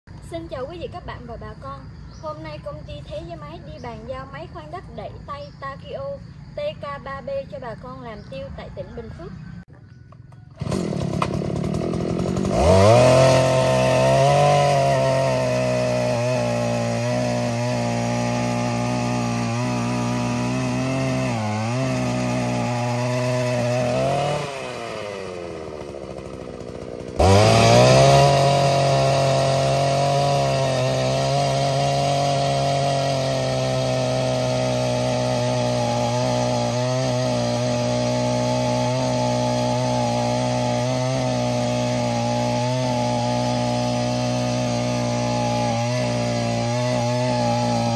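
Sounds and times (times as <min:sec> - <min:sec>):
earth auger petrol engine: 0:07.3 - 0:47.9.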